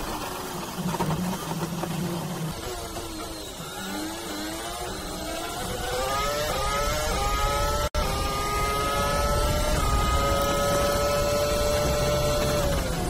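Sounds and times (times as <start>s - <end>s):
racing car engine high revs: 0.8s - 13.0s.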